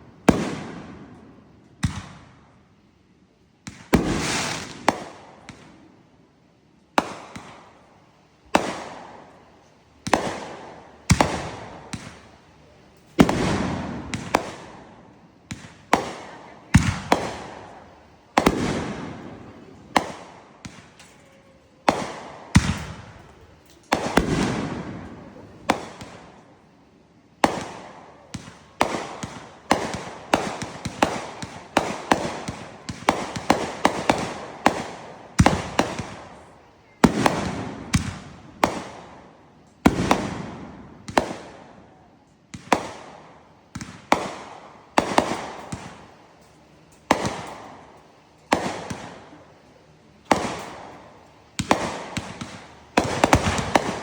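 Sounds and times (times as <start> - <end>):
fireworks bangs with crackling: 0.0 - 2.5, 3.6 - 5.8, 6.9 - 26.7, 27.4 - 49.6, 50.2 - 54.0.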